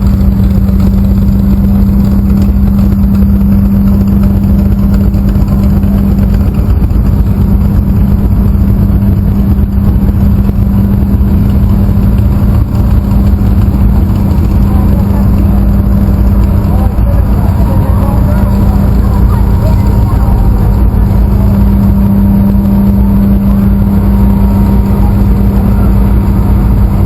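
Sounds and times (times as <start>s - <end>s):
motor running with low hum: 0.0s - 27.0s.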